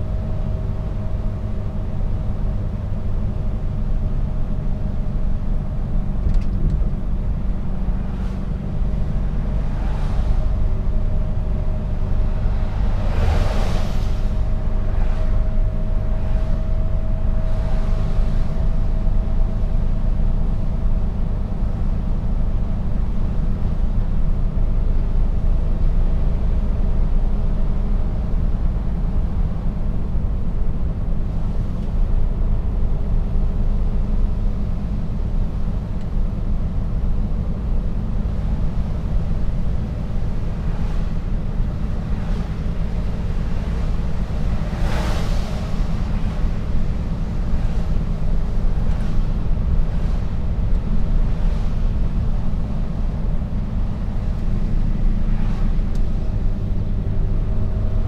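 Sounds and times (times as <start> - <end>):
diesel truck engine rumble: 0.0 - 58.0
road noise: 0.0 - 58.0.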